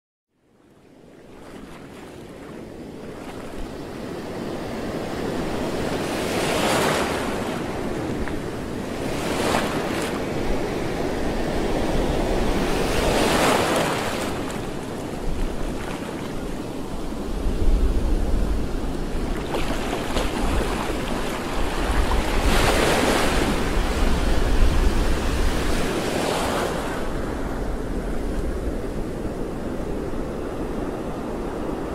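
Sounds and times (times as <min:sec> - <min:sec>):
sea waves splashing: 0:01.2 - 0:31.9
wind buffeting microphone: 0:02.9 - 0:31.9.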